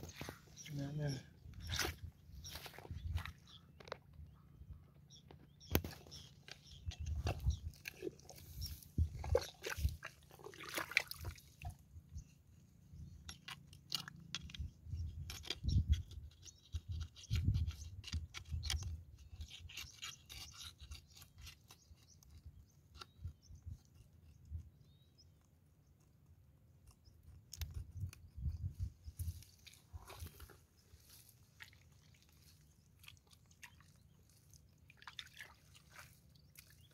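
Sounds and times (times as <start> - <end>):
digging and scraping wet mud: 0.0 - 36.9.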